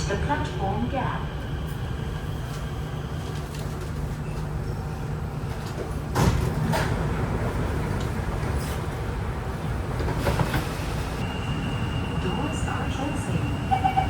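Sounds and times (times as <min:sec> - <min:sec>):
metro car rumble: 0:00.0 - 0:14.0.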